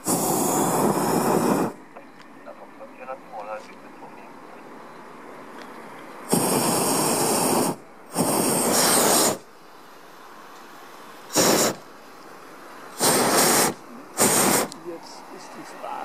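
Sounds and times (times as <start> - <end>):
propane burner blasts: 0.0 - 2.8, 4.8 - 16.0.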